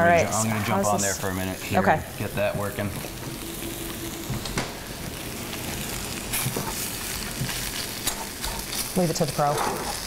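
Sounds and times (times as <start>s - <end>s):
potatoes sizzling in skillet: 0.0s - 10.0s.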